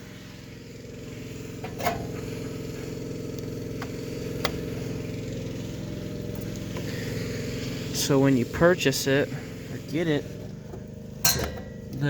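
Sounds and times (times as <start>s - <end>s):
low buzzing hum: 0.0s - 12.0s.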